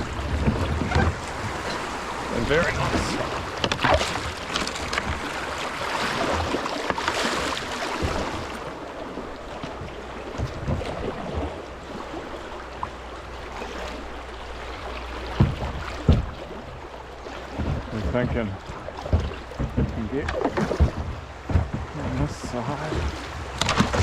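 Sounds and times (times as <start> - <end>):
dull knocks on kayak: 0.0 - 8.6, 9.6 - 11.6, 15.2 - 24.0
creek water running: 0.0 - 24.0.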